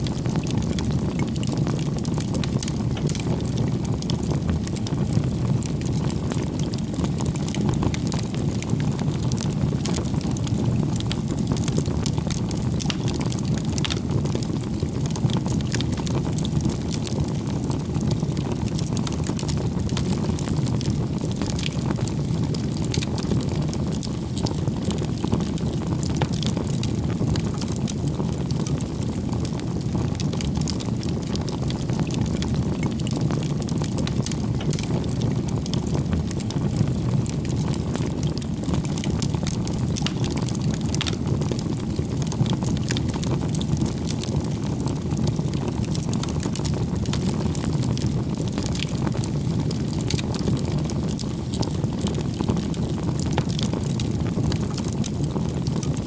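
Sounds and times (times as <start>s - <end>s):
wood crackling and popping: 0.0s - 56.0s
flames rushing: 0.1s - 56.0s.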